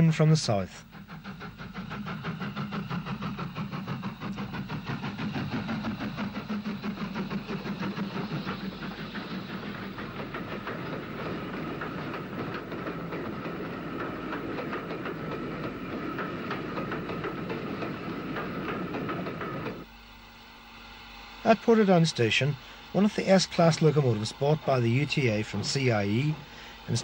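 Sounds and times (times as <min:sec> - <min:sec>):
steam locomotive rhythmic beat: 0:00.0 - 0:27.0.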